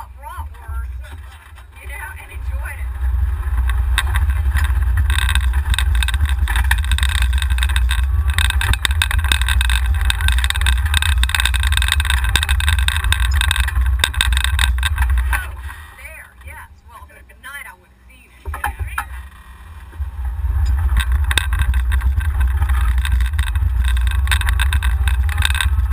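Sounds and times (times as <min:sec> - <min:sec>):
wind rumble on microphone: 0:00.0 - 0:17.2, 0:18.5 - 0:25.9
rattling and road noise: 0:00.0 - 0:25.9.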